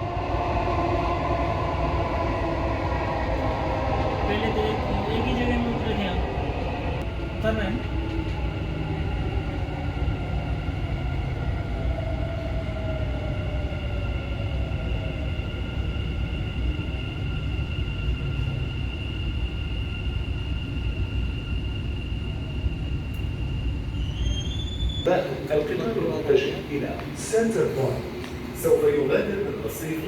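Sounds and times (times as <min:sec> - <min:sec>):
train rolling rumble: 0:00.0 - 0:30.0.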